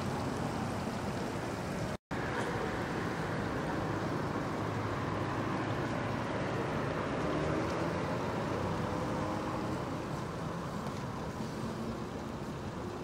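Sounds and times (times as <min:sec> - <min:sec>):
street traffic noise: 0:00.0 - 0:13.0
car driving past: 0:02.2 - 0:13.0.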